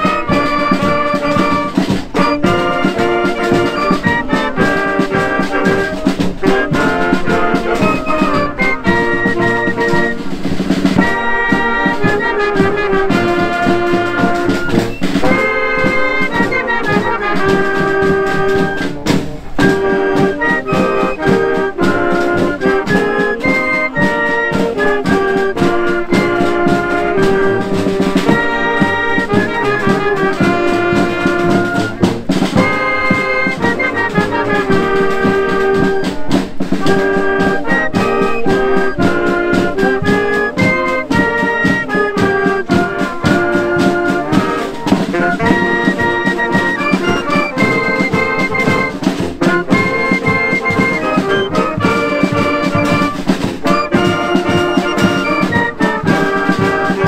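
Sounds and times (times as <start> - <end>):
brass melody: 0.0 - 57.0
steady drum beat: 0.0 - 57.0.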